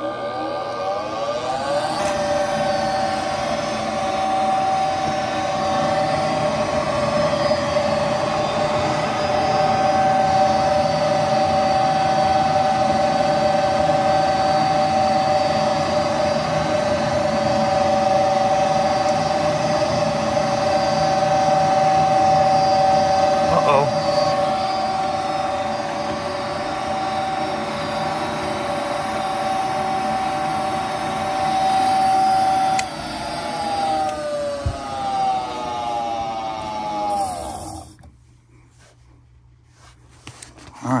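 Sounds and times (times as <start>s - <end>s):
furnace motor whine: 0.0s - 38.2s.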